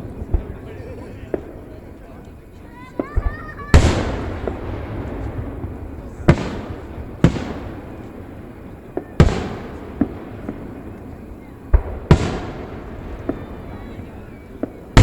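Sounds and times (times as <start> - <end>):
fireworks booming: 0.0 - 15.0
fireworks pops and crackles: 0.0 - 15.0.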